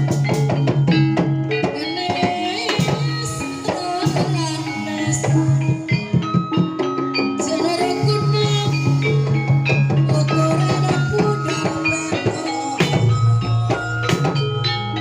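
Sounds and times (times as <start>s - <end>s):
hand drums beating: 0.0s - 15.0s
sustained pitched instruments: 0.0s - 15.0s
pitch-bending melodic line: 2.3s - 15.0s.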